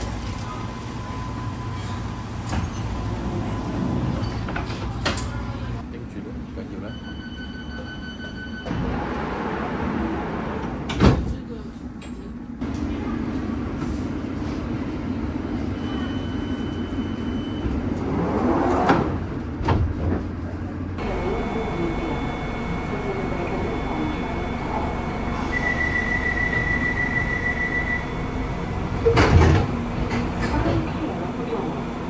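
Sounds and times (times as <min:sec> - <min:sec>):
rail car rumbling: 0:00.0 - 0:05.8, 0:06.9 - 0:32.0.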